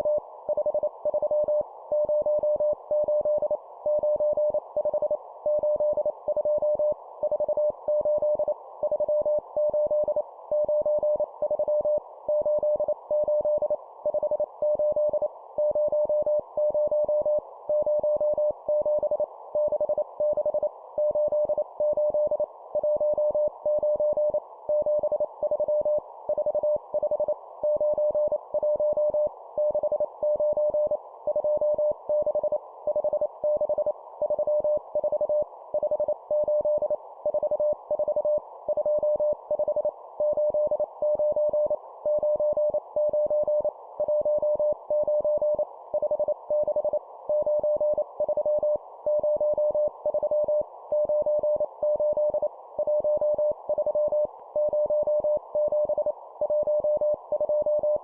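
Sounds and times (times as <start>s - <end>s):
morse code beeps: 0.0s - 58.0s.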